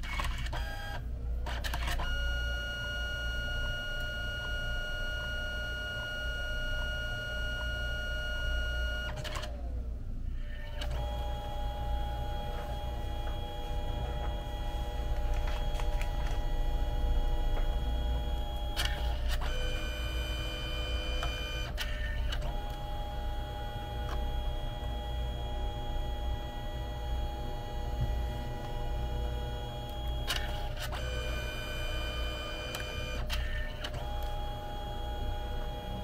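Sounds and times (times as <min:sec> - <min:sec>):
printer motor whine: 0:00.0 - 0:36.0.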